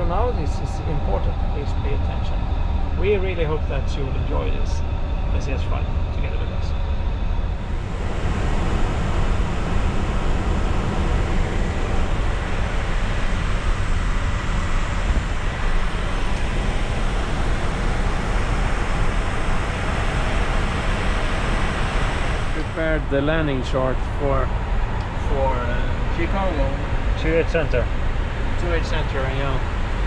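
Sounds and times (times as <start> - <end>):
airflow and engine noise in cockpit: 0.0 - 30.0.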